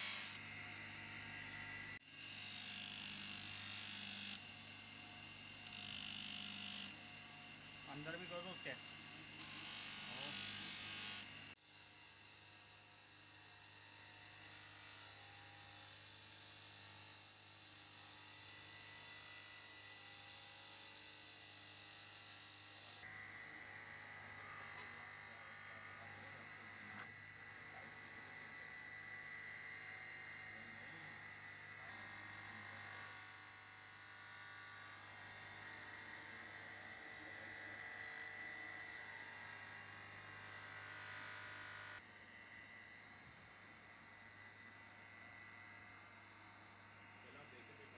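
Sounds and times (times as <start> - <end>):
bench grinder motor hum: 0.0 - 43.3.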